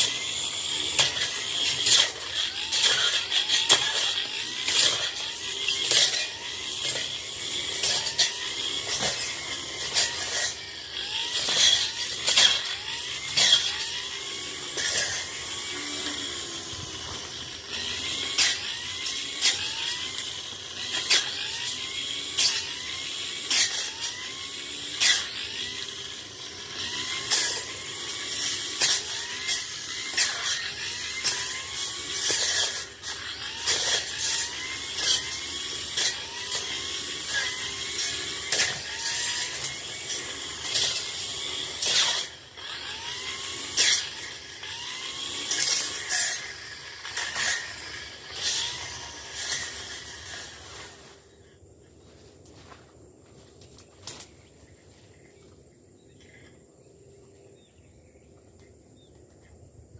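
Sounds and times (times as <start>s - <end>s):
brush cutter engine revving: 0.0s - 52.9s.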